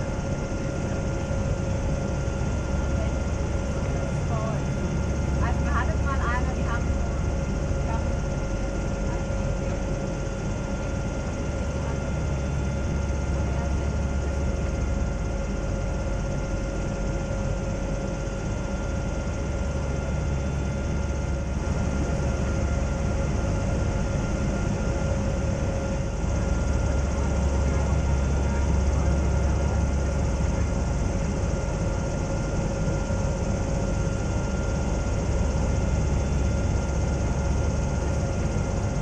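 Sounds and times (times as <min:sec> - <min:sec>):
airship propeller engines droning: 0:00.0 - 0:39.0
constant hum tone: 0:00.0 - 0:39.0.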